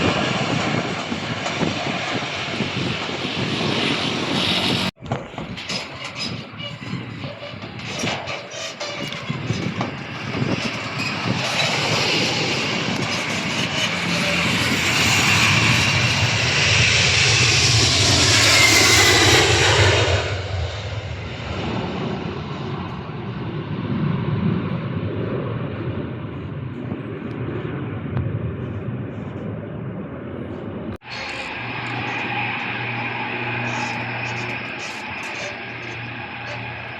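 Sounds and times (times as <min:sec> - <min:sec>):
aircraft engines passing: 0:00.0 - 0:36.9.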